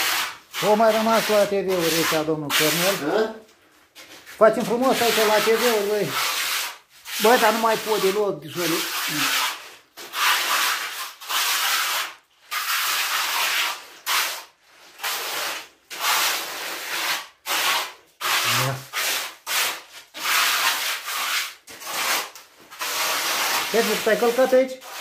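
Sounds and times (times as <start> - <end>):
trowel scraping wet concrete: 0.0 - 3.4, 4.0 - 25.0.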